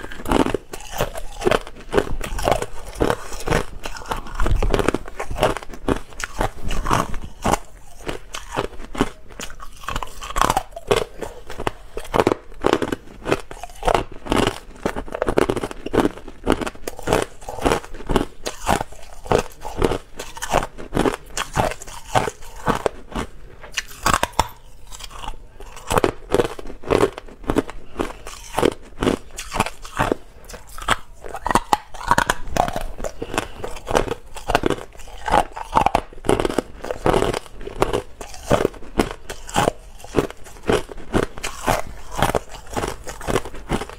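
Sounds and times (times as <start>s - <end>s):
ice crunching while chewed: 0.0s - 43.9s.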